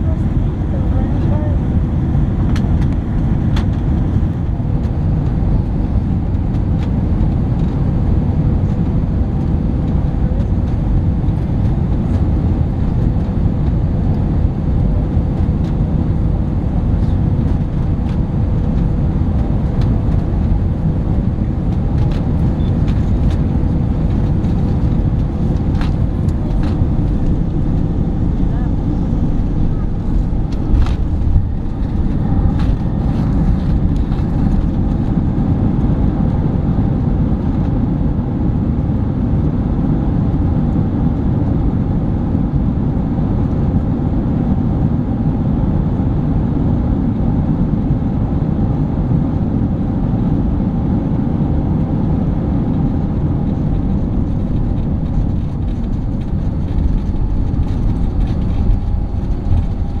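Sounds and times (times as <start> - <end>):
airplane cabin engine roar: 0.0 - 60.0.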